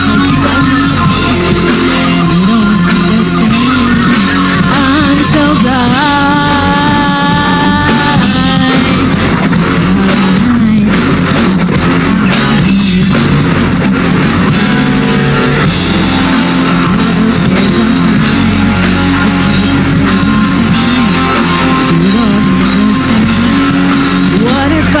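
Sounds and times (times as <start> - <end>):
bass guitar: 0.0 - 25.0
distorted electric guitars: 0.0 - 25.0
drum kit: 0.0 - 25.0.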